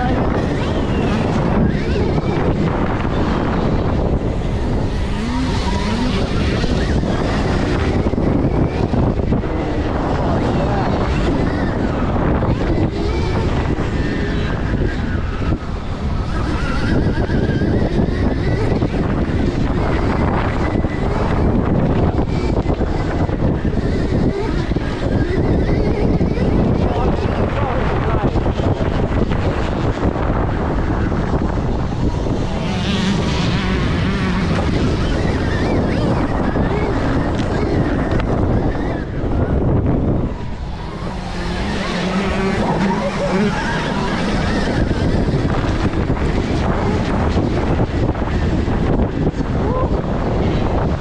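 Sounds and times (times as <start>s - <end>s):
electric motor whine: 0.0s - 51.0s
wind buffeting microphone: 0.0s - 51.0s.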